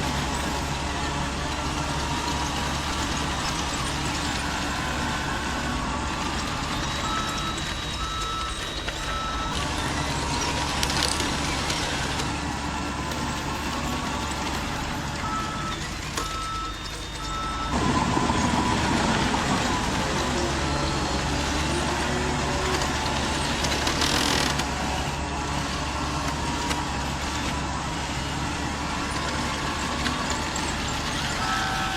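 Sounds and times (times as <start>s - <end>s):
simulated diesel engine sounds: 0.0s - 31.9s
reversing beeper: 0.1s - 31.9s.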